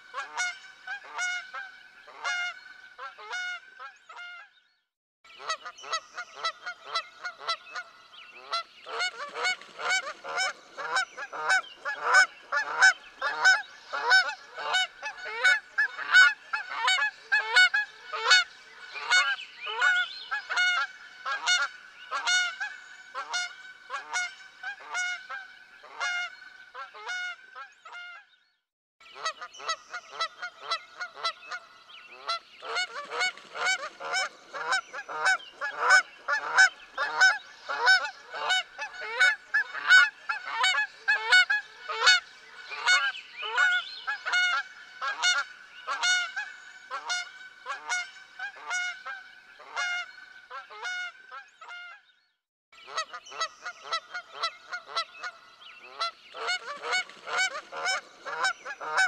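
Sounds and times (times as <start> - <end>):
geese honking: 0.1 - 4.4, 5.4 - 28.2, 32.2 - 52.0, 52.9 - 59.0.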